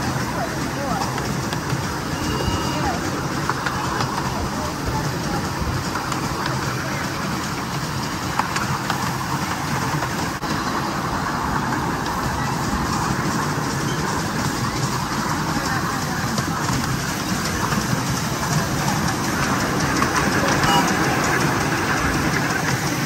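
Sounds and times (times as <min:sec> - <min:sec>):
miniature train rolling on track: 0:00.0 - 0:23.0
wheels clicking on rails: 0:00.0 - 0:23.0.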